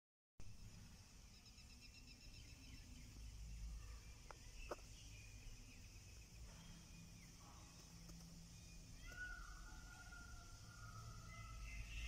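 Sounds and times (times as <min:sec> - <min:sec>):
high insect hiss: 0:00.4 - 0:12.0
faint bird chirps: 0:00.5 - 0:12.0.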